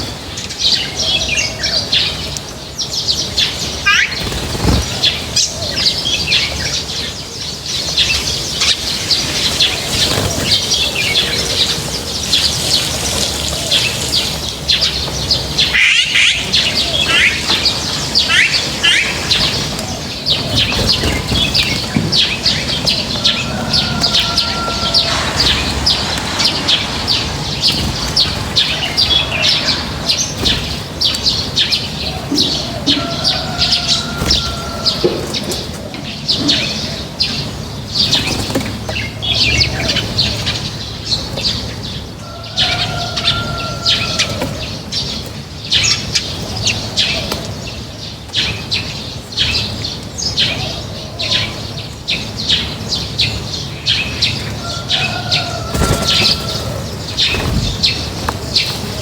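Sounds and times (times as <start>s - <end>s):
flock of small birds chirping: 0.0s - 59.0s.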